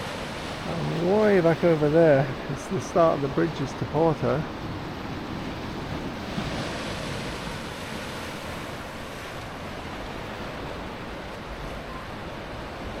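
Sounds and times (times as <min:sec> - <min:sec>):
surf washing against shore: 0:00.0 - 0:13.0.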